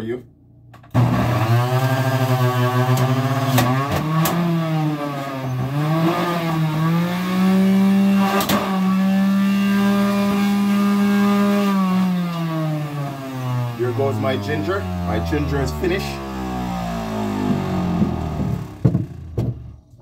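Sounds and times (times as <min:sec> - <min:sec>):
electric juicer motor humming: 0:01.0 - 0:19.5.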